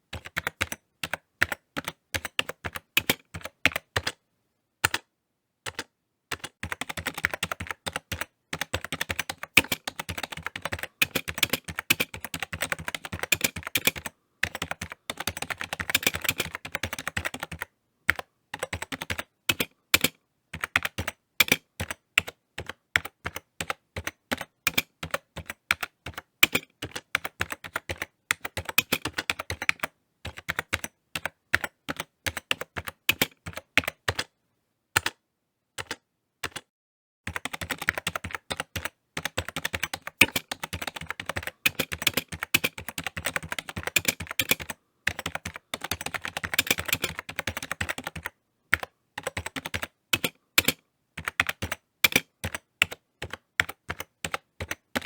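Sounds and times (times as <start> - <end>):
computer keyboard typing: 0.0 - 4.2, 4.8 - 5.1, 5.7 - 34.3, 35.0 - 35.2, 35.8 - 36.7, 37.3 - 55.0.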